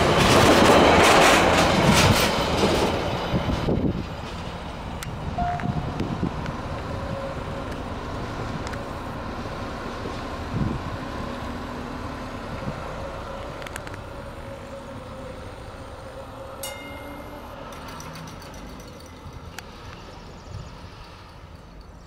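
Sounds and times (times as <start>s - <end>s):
diesel train engine pulling away: 0.0s - 22.0s.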